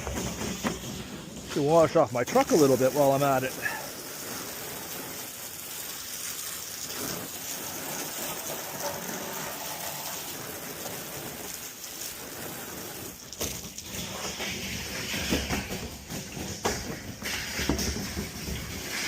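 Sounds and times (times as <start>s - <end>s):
hose water spraying: 0.0s - 19.0s.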